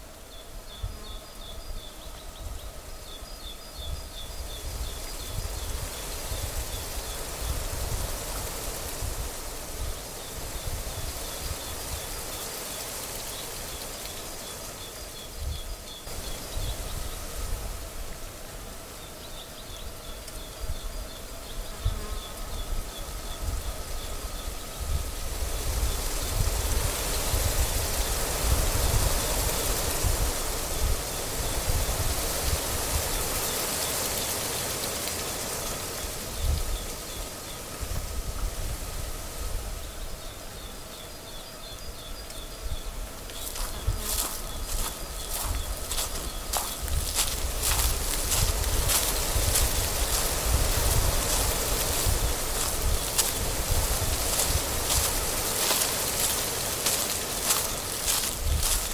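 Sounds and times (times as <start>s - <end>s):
wind through grass and leaves: 0.0s - 58.9s
wind gusting on microphone: 0.5s - 12.6s, 15.2s - 18.4s, 19.8s - 33.8s, 36.0s - 40.7s, 41.8s - 58.9s.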